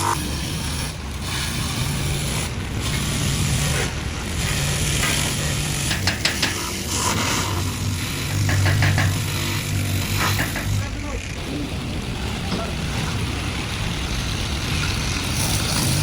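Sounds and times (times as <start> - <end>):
motor running with clatter: 0.0 - 16.0.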